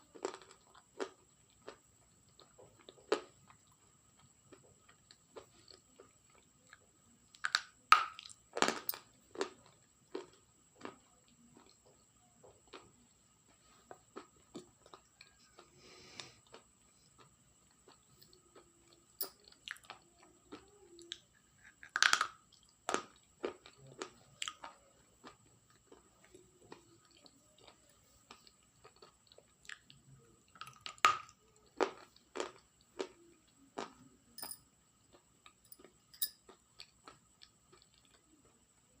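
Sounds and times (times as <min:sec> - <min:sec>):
chewing brittle food crunches: 0:00.0 - 0:34.0, 0:35.1 - 0:38.7.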